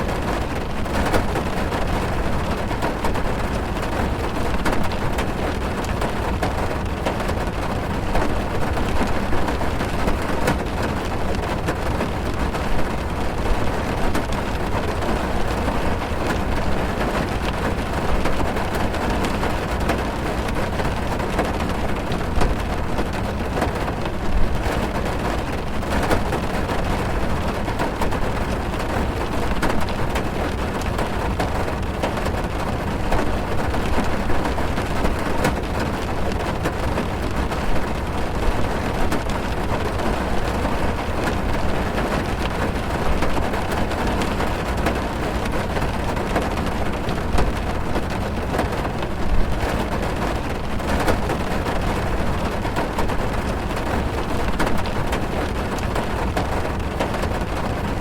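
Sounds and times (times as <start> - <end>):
heavy rain drumming on car: 0.0 - 58.0.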